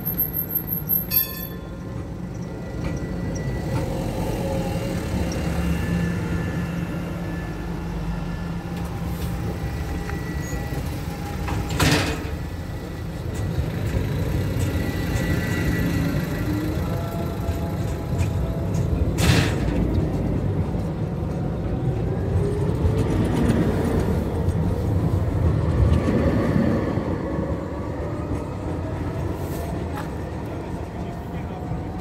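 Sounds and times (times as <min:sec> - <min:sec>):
tram rumbling: 0:00.0 - 0:32.0.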